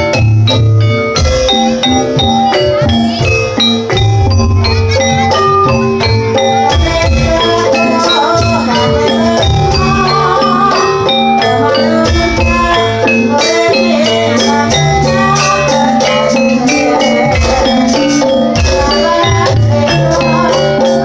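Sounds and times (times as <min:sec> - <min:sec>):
drum strokes: 0:00.0 - 0:21.0
gamelan music: 0:00.0 - 0:21.0
struck metallophones: 0:00.0 - 0:21.0
wavering high melody: 0:00.0 - 0:21.0.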